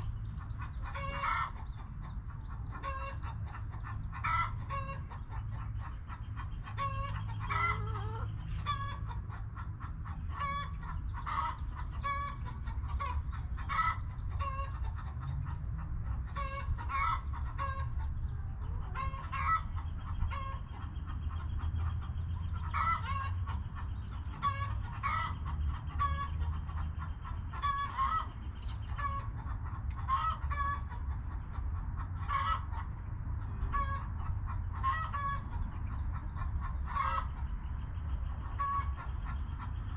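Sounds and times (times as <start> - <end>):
hens clucking: 0.0 - 39.9
steady low rumble: 0.0 - 39.9.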